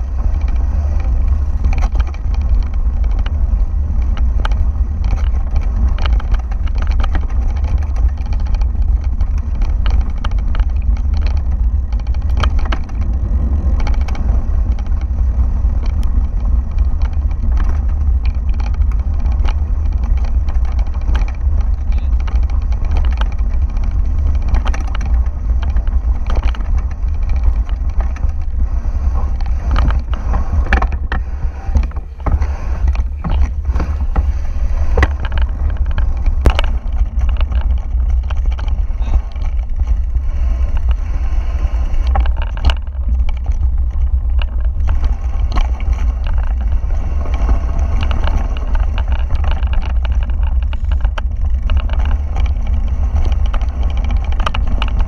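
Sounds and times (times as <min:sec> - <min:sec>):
bike rattling over bumps: 0:00.0 - 0:55.0
bike rolling on gravel rumble: 0:00.0 - 0:55.0
tyres clicking on loose stones: 0:00.0 - 0:55.0.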